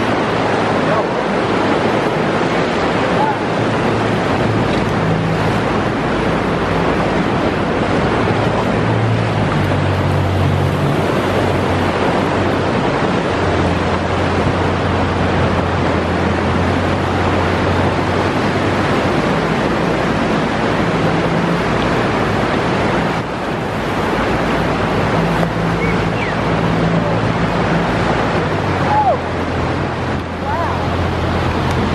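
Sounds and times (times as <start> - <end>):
outboard motor humming: 0.0 - 31.9
surf breaking on rocks: 0.0 - 31.9
wind noise on microphone: 0.0 - 31.9.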